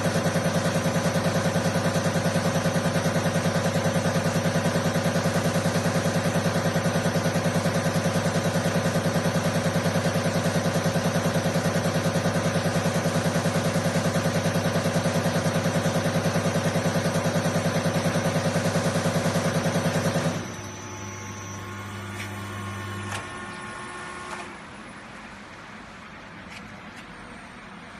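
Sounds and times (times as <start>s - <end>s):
machine running with fast pulse: 0.0s - 24.4s.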